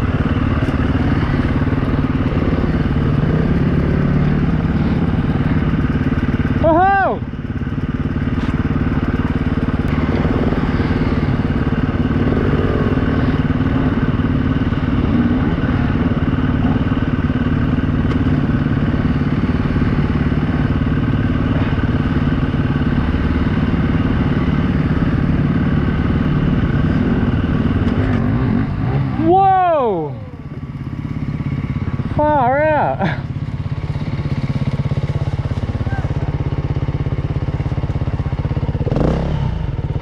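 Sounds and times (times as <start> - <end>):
dirt bike engine running steadily: 0.0 - 40.0.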